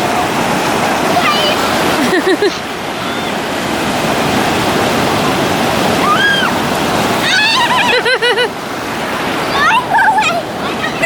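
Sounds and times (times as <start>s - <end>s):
sea surf on a beach: 0.0s - 11.0s.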